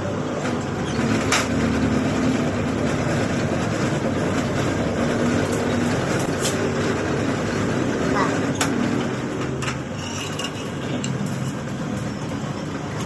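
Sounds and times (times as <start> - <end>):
lathe humming and clattering: 0.0 - 13.0.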